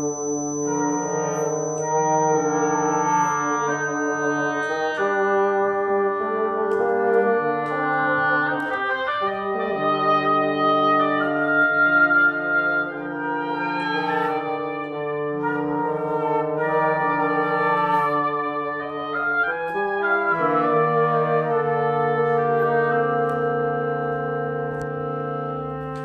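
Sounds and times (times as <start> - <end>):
woodwind quintet playing: 0.0 - 26.0.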